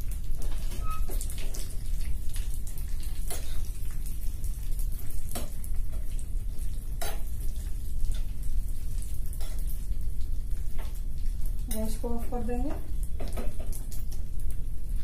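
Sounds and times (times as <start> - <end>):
nuts sizzling in a pan: 0.0 - 15.0.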